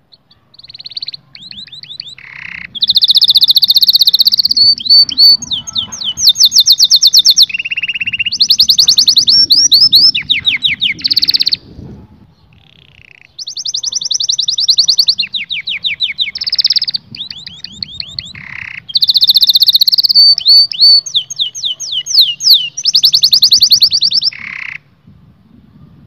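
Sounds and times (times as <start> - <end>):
canary singing trills: 0.0 - 24.8.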